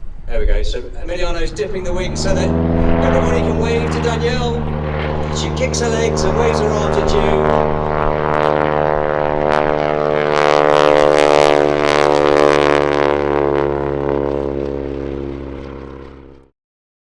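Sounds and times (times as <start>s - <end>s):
biplane engine droning: 0.0s - 16.5s.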